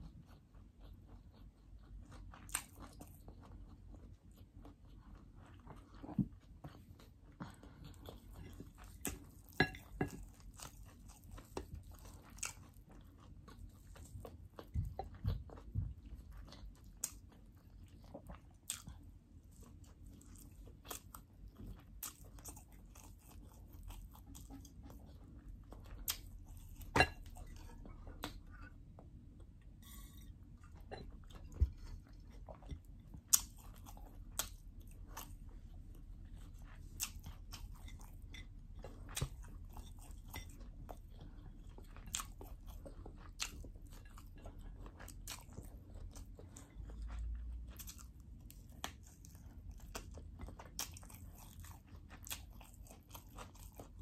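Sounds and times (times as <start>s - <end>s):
person chewing with crunches: 0.0s - 54.0s.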